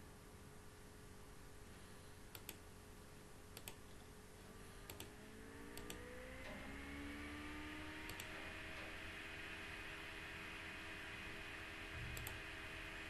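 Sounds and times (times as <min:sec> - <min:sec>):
faint hum rising in pitch: 0:00.0 - 0:13.0.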